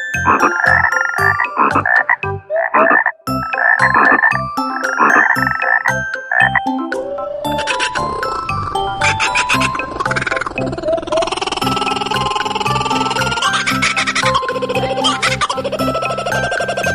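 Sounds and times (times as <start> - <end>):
frog croaking: 0.3 - 8.4, 9.0 - 16.9.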